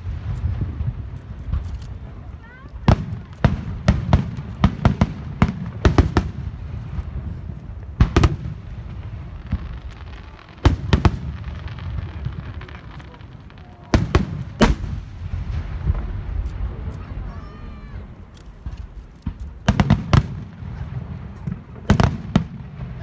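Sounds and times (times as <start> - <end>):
continuous low rumble: 0.0 - 23.0
fireworks bangs: 0.0 - 23.0.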